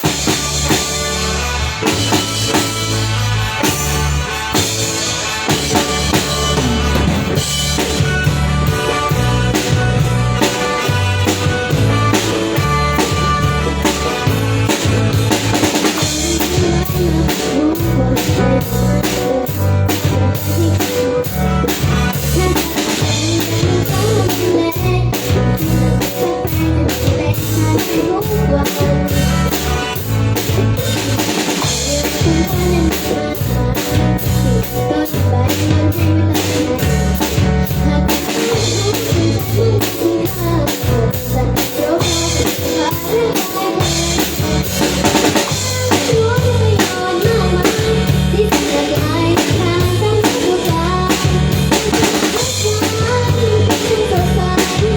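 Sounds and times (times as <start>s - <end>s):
drum kit beat: 0.0s - 54.9s
live band playing: 0.0s - 54.9s
repeating bass line: 0.0s - 54.9s.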